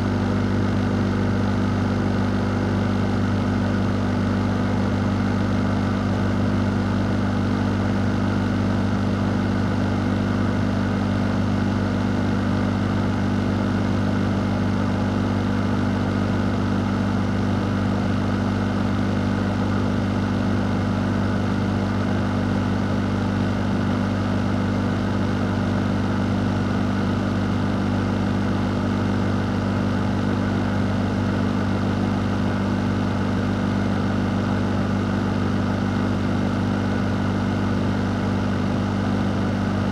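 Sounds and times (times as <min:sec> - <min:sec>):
fan motor hum: 0:00.0 - 0:39.9.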